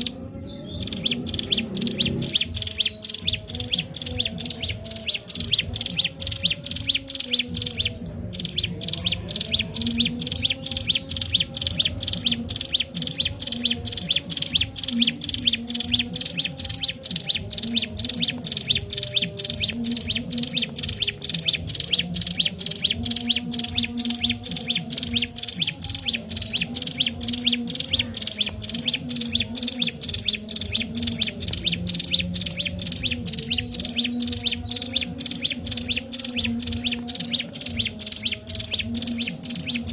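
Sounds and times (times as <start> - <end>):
bird chirping sharply: 0.0 - 39.9.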